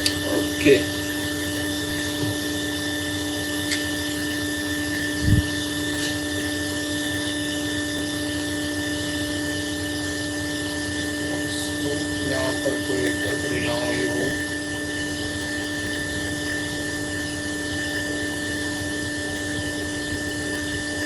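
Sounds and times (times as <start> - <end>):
hot air station blowing: 0.0 - 21.0.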